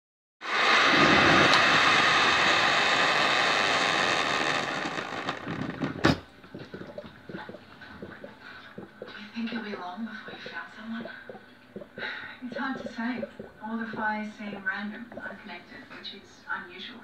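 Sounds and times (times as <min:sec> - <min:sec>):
hot water pouring into mug: 0:00.4 - 0:15.8.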